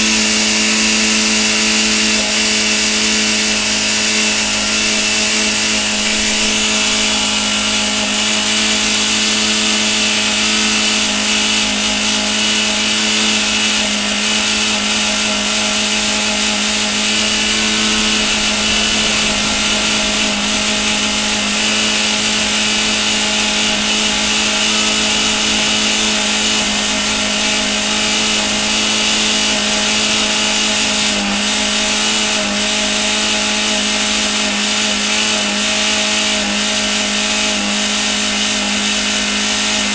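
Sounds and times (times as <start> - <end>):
engine at high revs droning: 0.0 - 39.9.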